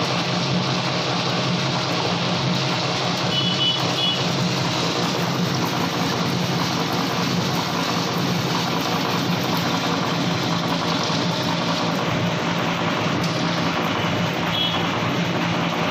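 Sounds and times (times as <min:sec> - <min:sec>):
mill machinery running: 0:00.0 - 0:15.9.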